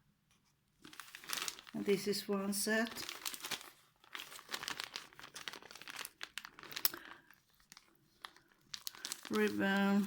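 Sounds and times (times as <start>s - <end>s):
packaging crinkling: 0.8s - 10.0s.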